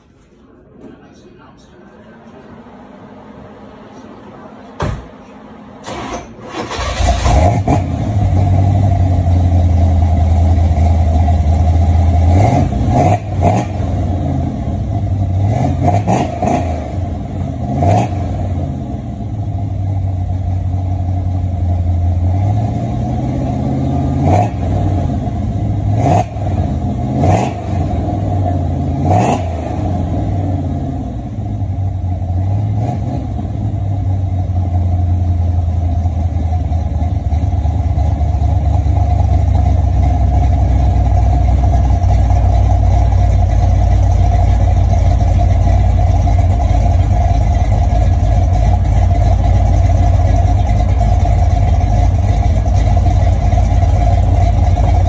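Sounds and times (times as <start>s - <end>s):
car engine starting and idling: 2.1s - 55.0s
engine throttle blips: 2.3s - 55.0s.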